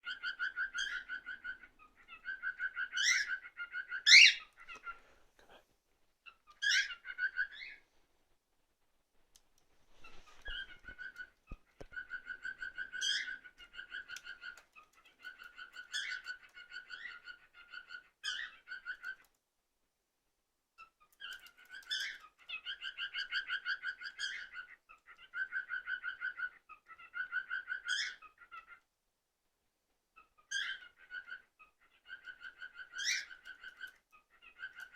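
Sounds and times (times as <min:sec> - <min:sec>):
cockatiel chirping: 0:00.0 - 0:05.0, 0:06.2 - 0:07.8, 0:10.0 - 0:19.3, 0:20.8 - 0:28.8, 0:30.2 - 0:34.9.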